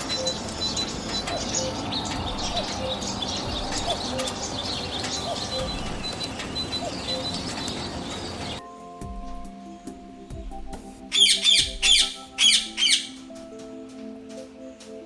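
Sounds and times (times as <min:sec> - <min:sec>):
birds chirping and calling: 0:00.0 - 0:08.6, 0:09.2 - 0:15.0.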